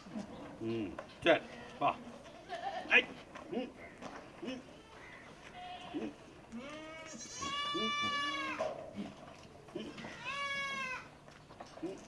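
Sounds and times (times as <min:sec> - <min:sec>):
goats bleating: 0:01.3 - 0:11.2.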